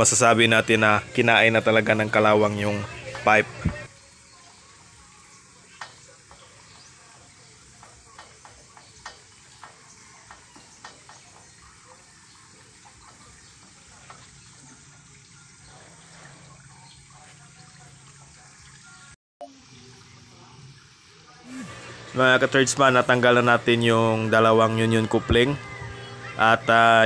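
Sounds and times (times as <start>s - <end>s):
water running and splashing: 0.0s - 27.0s.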